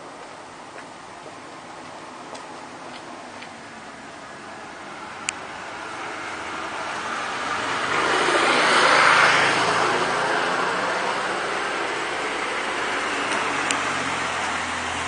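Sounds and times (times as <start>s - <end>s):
traffic hum: 0.0s - 15.0s
car passing: 1.4s - 15.0s.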